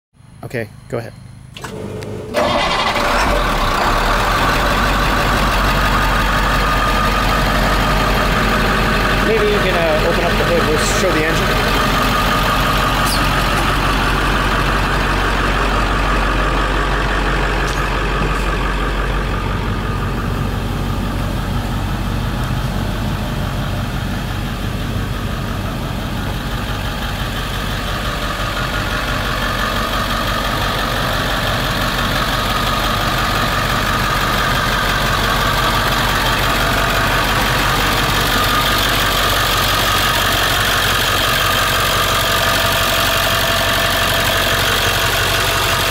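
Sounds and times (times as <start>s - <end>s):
diesel engine idling: 0.2s - 45.9s.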